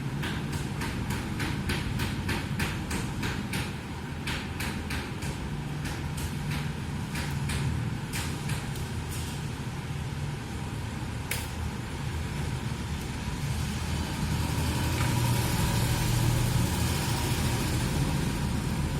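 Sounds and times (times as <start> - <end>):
low rumble of street traffic: 0.0 - 18.9.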